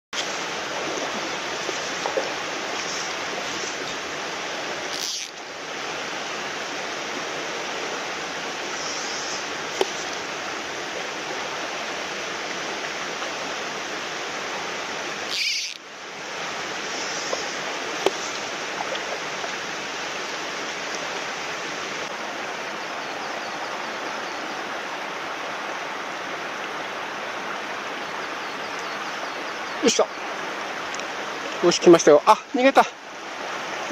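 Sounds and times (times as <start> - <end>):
stream rushing over stones: 0.1 - 33.9.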